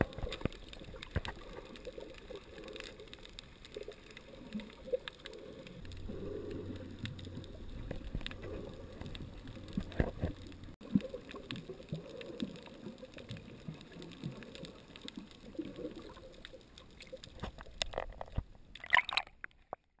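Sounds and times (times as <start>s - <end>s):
water splashing: 0.0s - 19.8s
water sloshing underwater: 0.0s - 20.0s.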